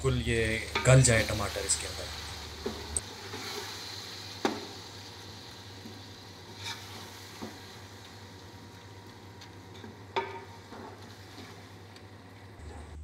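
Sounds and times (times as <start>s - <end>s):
food sizzling in oil: 0.0s - 12.6s.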